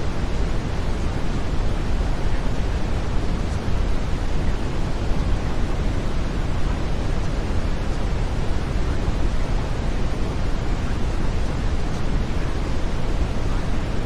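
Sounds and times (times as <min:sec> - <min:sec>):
deep rushing brown noise: 0:00.0 - 0:14.0.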